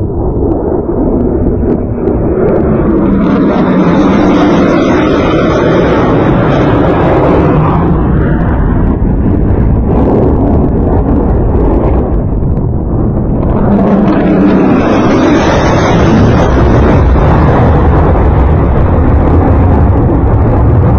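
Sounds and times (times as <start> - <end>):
jet engine roar passing overhead: 0.0 - 20.9
wind buffeting microphone: 0.0 - 20.9.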